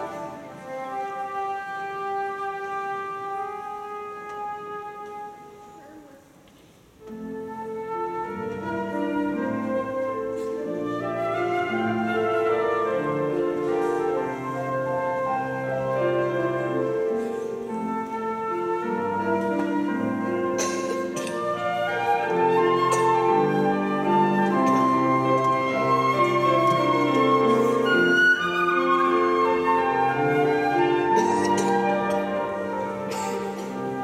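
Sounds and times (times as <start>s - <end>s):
piano chords: 0.0s - 5.8s, 7.1s - 34.0s
flute melody: 0.0s - 6.2s, 7.0s - 34.0s.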